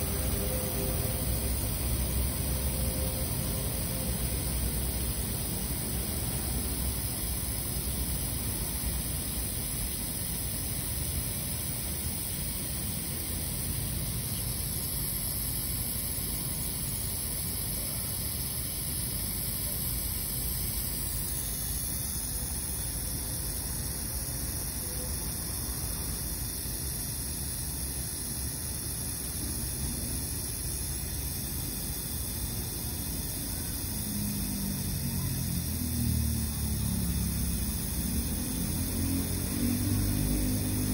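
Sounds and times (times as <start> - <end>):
aerosol spray hissing: 0.0 - 40.9.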